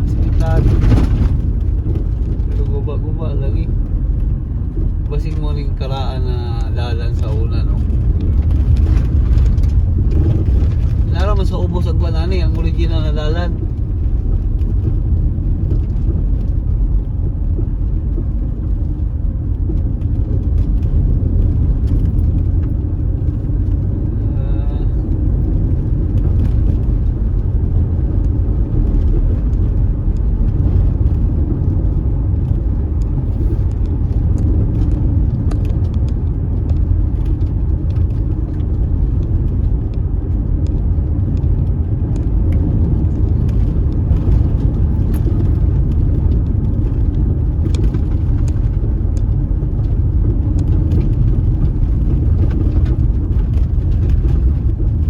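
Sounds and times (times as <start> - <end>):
tyres and engine rumbling: 0.0 - 55.0.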